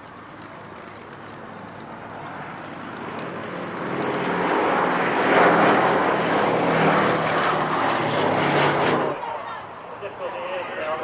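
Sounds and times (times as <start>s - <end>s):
low engine drone: 0.0s - 11.0s
aircraft flying past: 0.2s - 11.0s.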